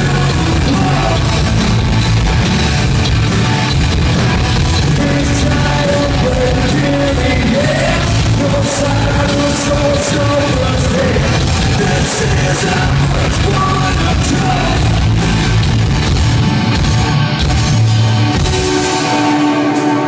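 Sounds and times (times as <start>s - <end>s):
heavy rock music: 0.0s - 20.0s.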